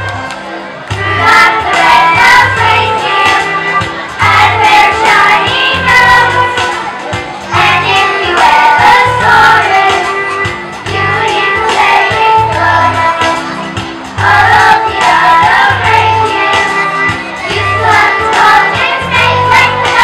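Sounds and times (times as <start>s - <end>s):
instrumental accompaniment: 0.0s - 20.0s
children singing a carol: 1.0s - 20.0s.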